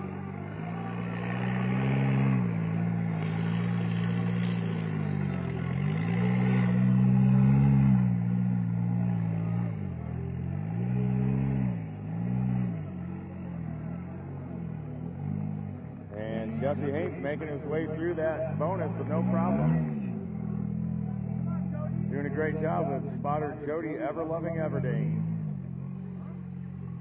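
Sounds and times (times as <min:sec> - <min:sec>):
engine revving: 0:00.0 - 0:27.0.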